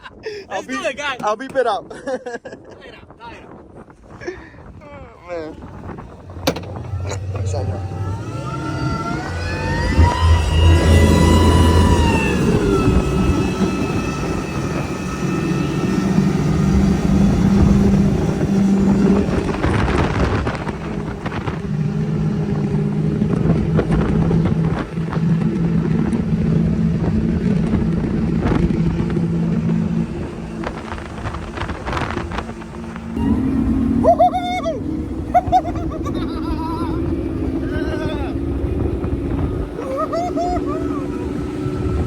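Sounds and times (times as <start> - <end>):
boat engines droning: 0.0 - 42.0
rough rushing and buffeting: 0.0 - 42.0.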